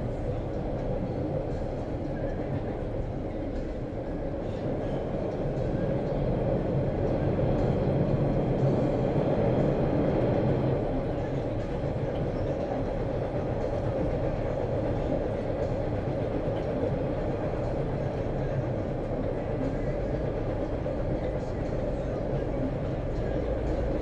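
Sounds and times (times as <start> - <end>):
subway train running: 0.0 - 24.0.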